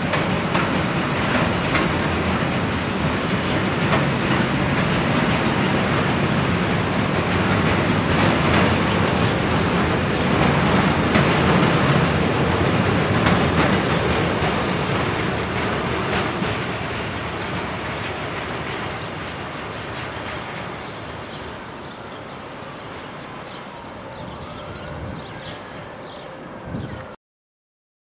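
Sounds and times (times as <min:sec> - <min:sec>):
freight train wagons passing: 0:00.0 - 0:27.0.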